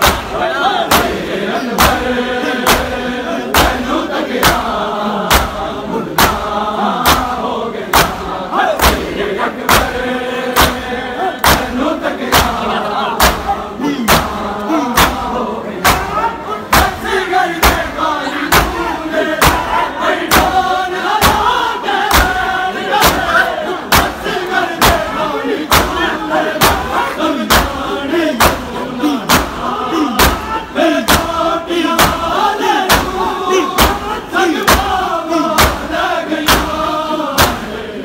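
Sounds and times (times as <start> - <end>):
crowd chanting a lament: 0.0 - 38.0
collective chest-beat thumps: 1.8 - 7.4, 8.0 - 37.7.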